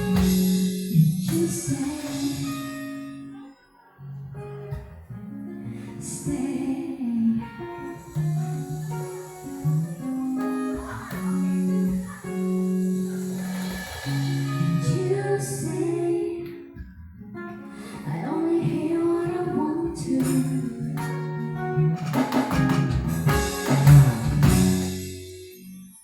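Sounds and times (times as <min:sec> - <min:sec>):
acoustic trio playing: 0:00.0 - 0:03.3, 0:04.2 - 0:16.3, 0:17.2 - 0:25.5
acoustic guitar strumming: 0:00.0 - 0:16.3, 0:17.2 - 0:26.0.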